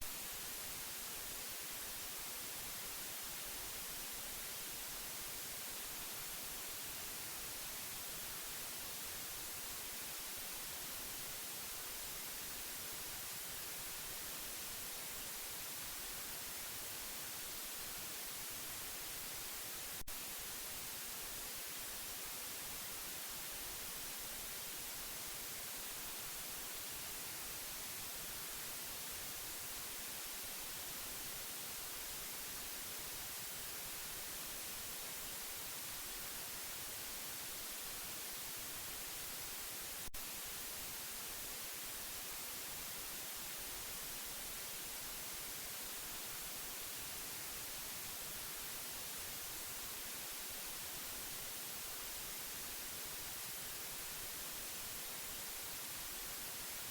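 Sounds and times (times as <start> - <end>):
white-noise hiss: 0.0 - 56.9.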